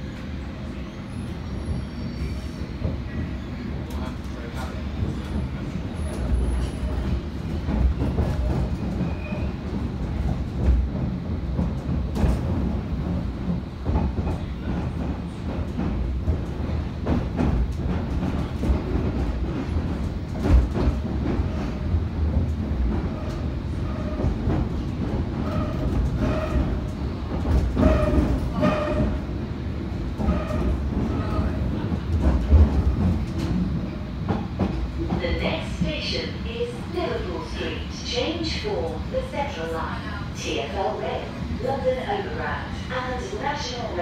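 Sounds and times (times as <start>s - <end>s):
train rumbling: 0.0s - 44.0s.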